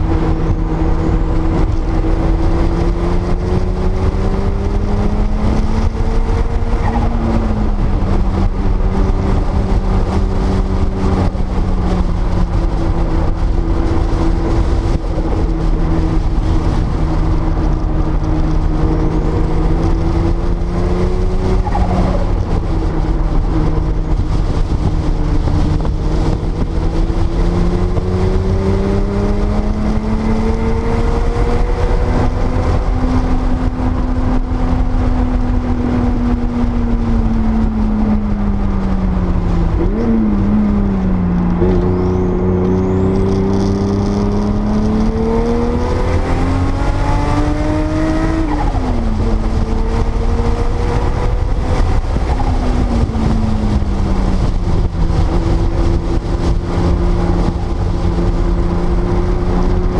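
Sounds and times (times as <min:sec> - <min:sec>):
car engine on track: 0:00.0 - 0:59.9
wind and road noise rumble: 0:00.0 - 0:59.9.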